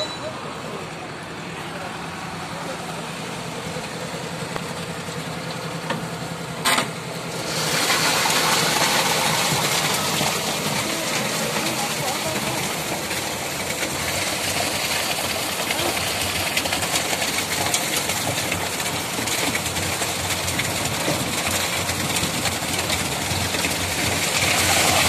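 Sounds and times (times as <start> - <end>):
concrete pouring down metal chute: 0.0 - 25.0
diesel truck engine running: 0.0 - 25.0.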